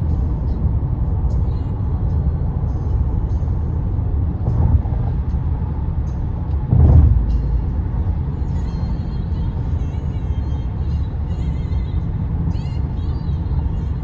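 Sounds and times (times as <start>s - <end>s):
tyre road noise inside car: 0.0s - 14.0s.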